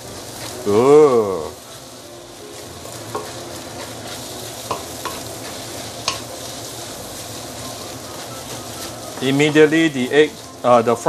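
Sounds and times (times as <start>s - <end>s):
rice sizzling in a wok: 0.0s - 11.0s.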